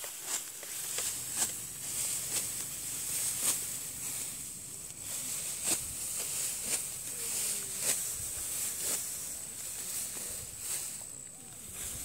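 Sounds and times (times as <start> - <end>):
sickle cutting rice stalks: 0.0 - 12.0
steady high hiss: 0.0 - 12.0.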